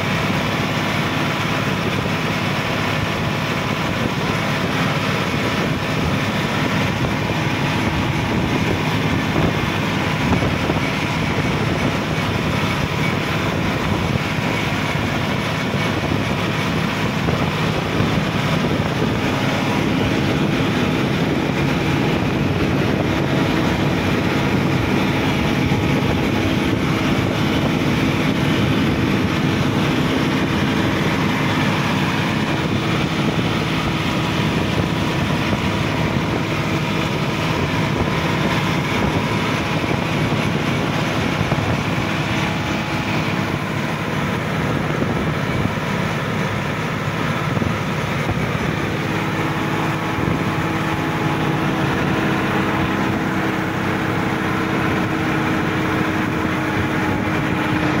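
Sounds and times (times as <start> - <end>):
road and wind noise: 0.0 - 58.0
tractor diesel engine running: 0.0 - 58.0.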